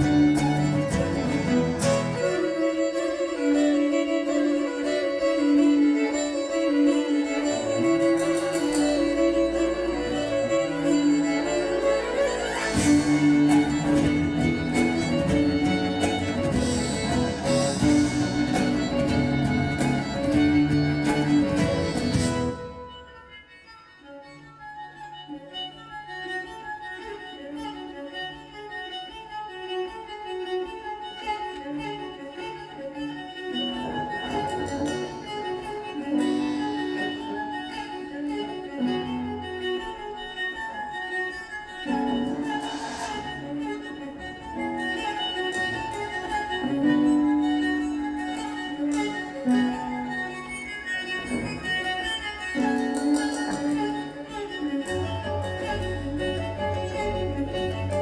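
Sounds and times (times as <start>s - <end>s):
acoustic band playing: 0.0s - 23.6s, 31.8s - 58.0s
cello: 0.0s - 58.0s
violin: 0.0s - 58.0s.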